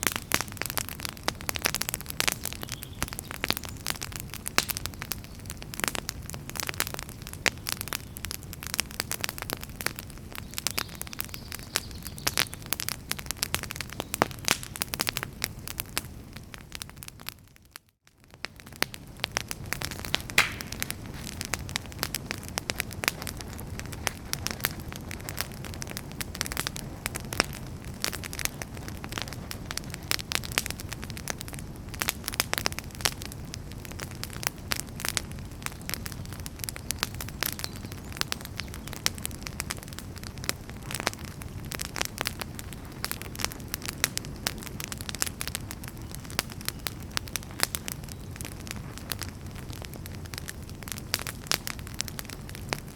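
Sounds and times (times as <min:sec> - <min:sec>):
wood fire crackling in fireplace: 0:00.0 - 0:52.9.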